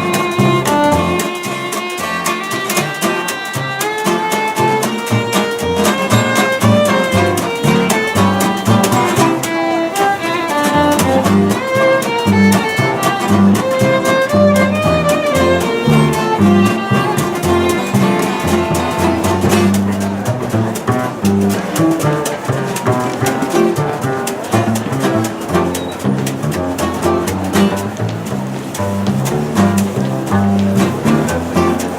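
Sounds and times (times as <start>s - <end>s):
strummed rhythm guitar: 0.0s - 31.9s
violin melody: 0.0s - 31.9s
walking double bass: 0.0s - 31.9s.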